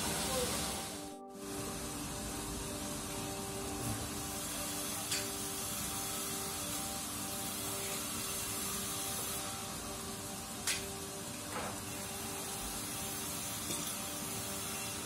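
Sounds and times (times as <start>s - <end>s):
sawmill machinery humming: 0.0s - 15.0s.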